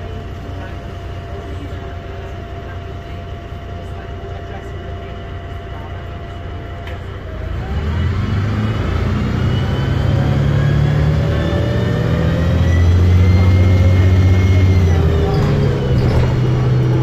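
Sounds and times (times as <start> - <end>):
bus engine accelerating: 0.0 - 17.0.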